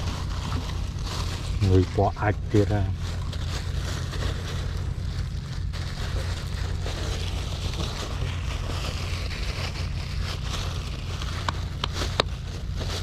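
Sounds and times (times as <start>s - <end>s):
low rumble: 0.0s - 13.0s
plastic bag rustling: 0.0s - 13.0s.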